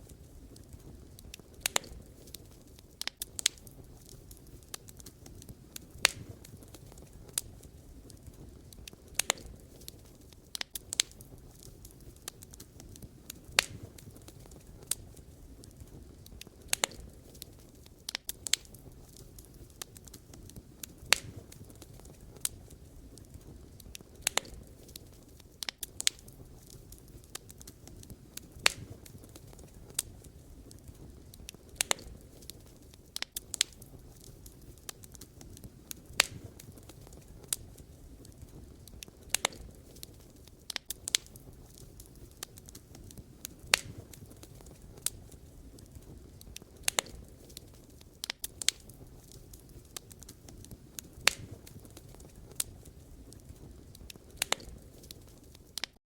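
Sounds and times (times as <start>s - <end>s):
flame rushing: 0.0s - 55.9s
firewood popping and crackling: 0.0s - 56.0s.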